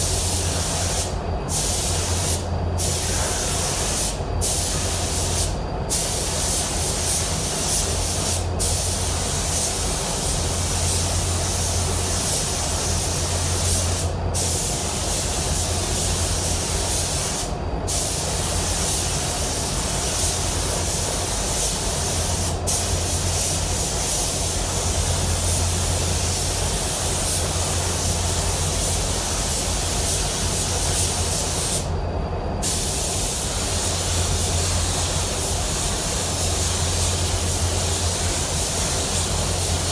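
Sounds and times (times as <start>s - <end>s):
paint spray gun hissing: 0.0s - 31.9s, 32.6s - 39.9s
steady low hum: 0.0s - 39.9s.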